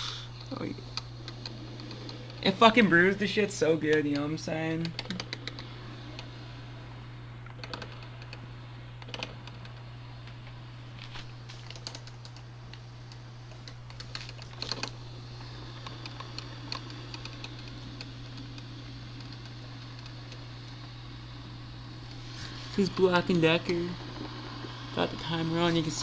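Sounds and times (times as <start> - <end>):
coffee maker low hum: 0.0 - 26.0.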